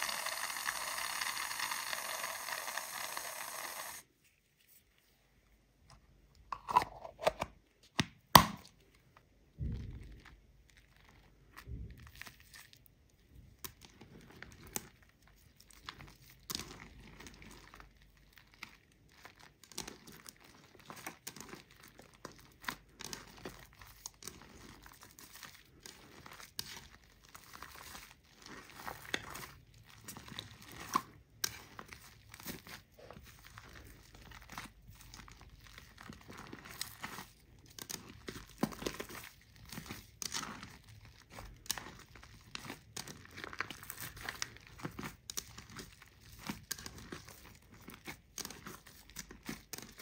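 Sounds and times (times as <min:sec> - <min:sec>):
foam slime squelching: 0:00.0 - 0:05.4, 0:08.8 - 0:50.0.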